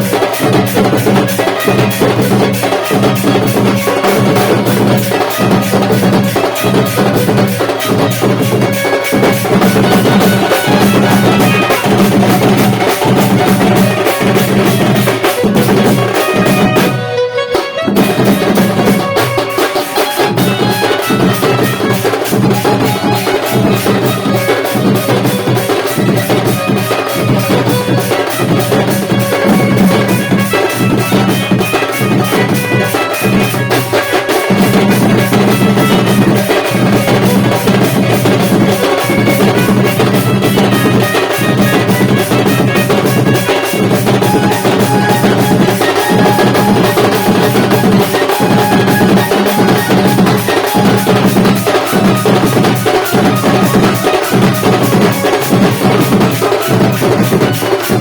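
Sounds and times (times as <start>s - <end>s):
loud party band music: 0.0s - 58.0s.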